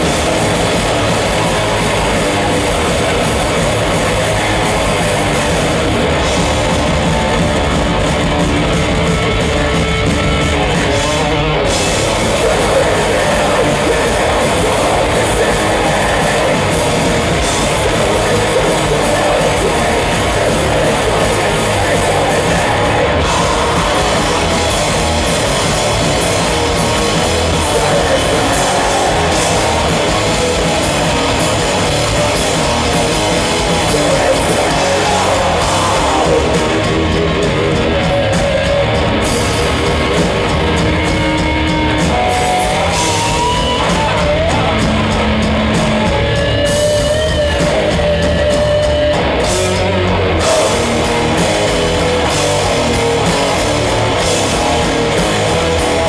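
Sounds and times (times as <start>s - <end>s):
bending guitar notes: 0.0s - 56.0s
heavy metal band playing live: 0.0s - 56.0s.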